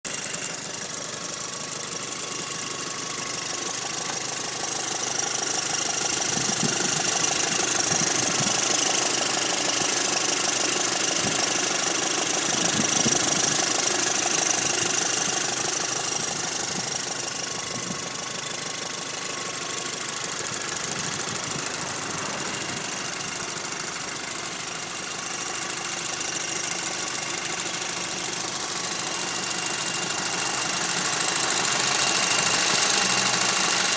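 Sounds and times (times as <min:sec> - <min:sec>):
car engine idling with rattle: 0:00.1 - 0:33.9.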